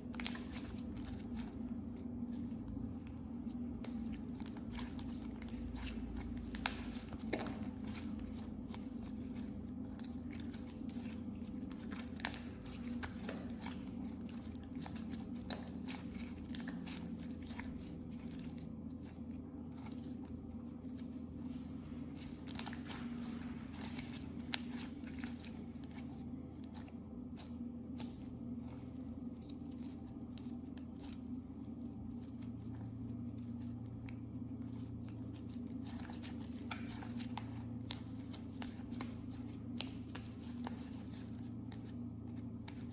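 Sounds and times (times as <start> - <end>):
hands squishing slime: 0.0 - 42.9
steady low hum: 0.0 - 42.9.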